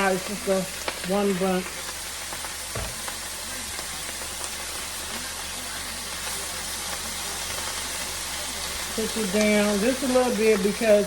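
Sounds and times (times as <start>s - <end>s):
greens sizzling in oil: 0.0s - 11.0s.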